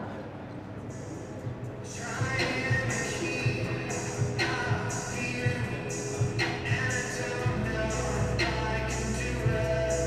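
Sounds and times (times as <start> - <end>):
music with pulsing beat: 0.9 - 10.0.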